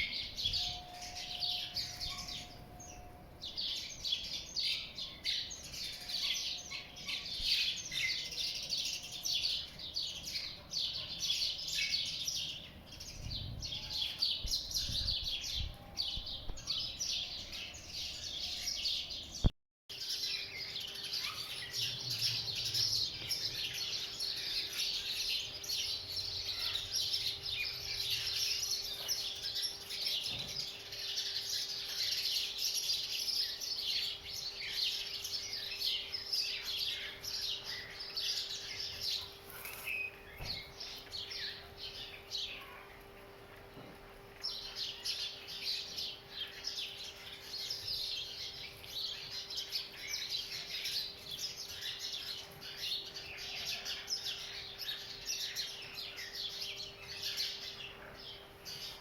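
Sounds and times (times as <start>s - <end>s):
small birds chirping and singing: 0.0s - 59.0s.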